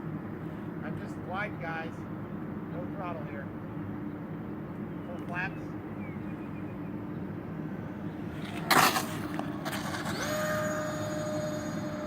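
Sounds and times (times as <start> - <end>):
electric fan motor whine: 0.0 - 12.0
low motor hum: 0.0 - 12.0.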